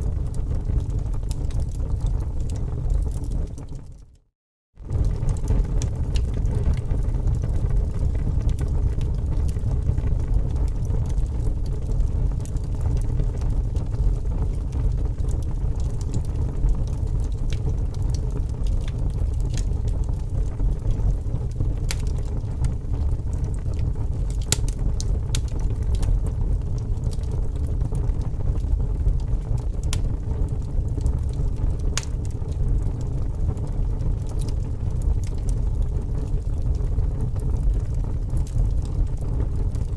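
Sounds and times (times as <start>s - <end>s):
wood fire roaring: 0.0s - 4.1s, 4.8s - 39.9s
fire crackling and popping: 0.0s - 4.2s, 4.8s - 39.9s.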